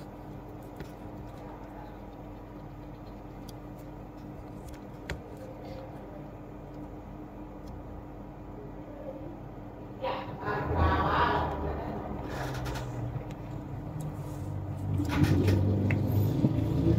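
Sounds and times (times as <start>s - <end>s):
low electrical hum: 0.0s - 16.9s.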